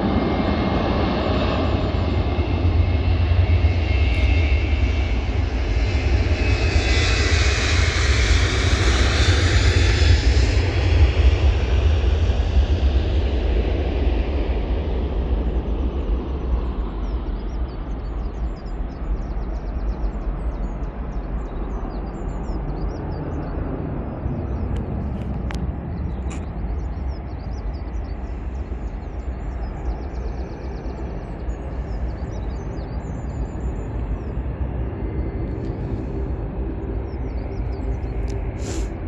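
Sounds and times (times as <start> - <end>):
jet engine noise: 0.0 - 39.0.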